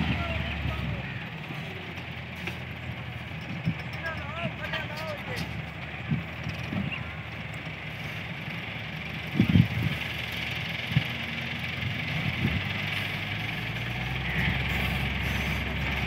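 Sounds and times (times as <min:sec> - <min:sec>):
diesel engines running under load: 0:00.0 - 0:16.0.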